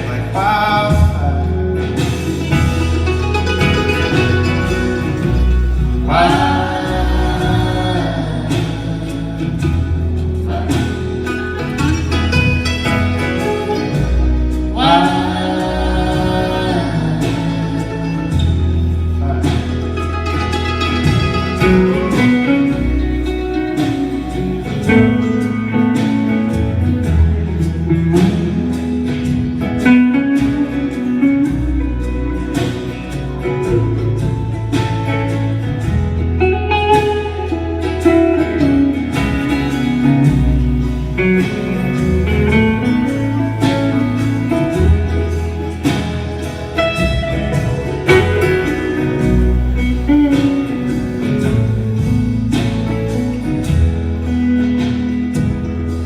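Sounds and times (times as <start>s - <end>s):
acoustic folk band playing: 0.0s - 56.0s.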